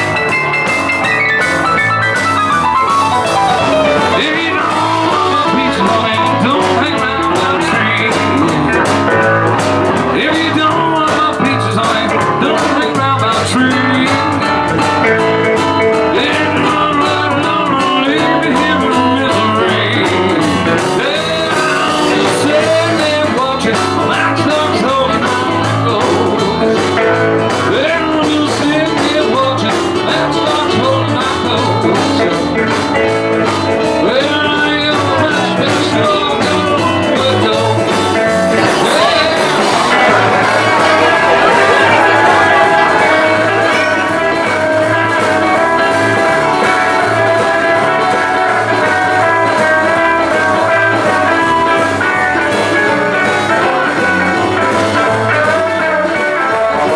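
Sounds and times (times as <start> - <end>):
drum kit: 0.0 - 56.9
electric guitar: 0.0 - 56.9
keyboard: 0.0 - 56.9
man singing into a microphone: 3.5 - 56.9.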